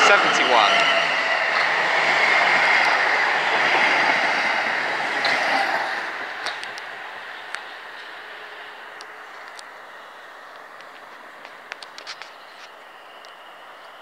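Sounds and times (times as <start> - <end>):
train wheel and rail noise: 0.0 - 14.0.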